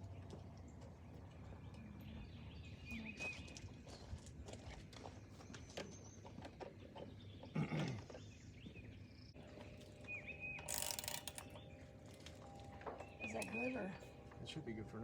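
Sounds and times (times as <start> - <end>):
bird chirp: 0.1 - 4.3, 5.0 - 11.9, 12.9 - 15.0.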